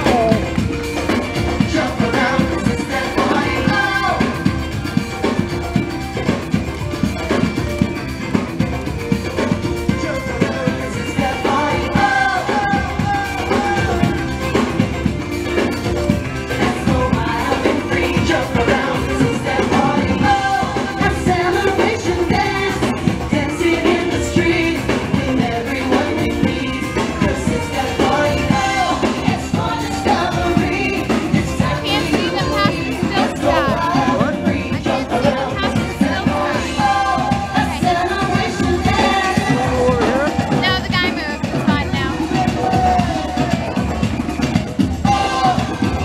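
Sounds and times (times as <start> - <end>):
person singing: 0.0 - 6.4, 9.3 - 15.7, 16.3 - 43.9
drum kit beat: 0.0 - 46.0
street band playing dance music: 0.0 - 46.0.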